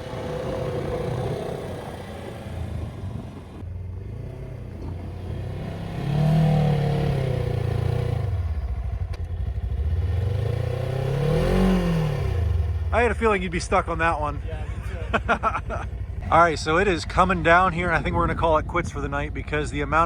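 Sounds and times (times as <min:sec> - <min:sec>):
snowblower engine revving: 0:00.0 - 0:20.0.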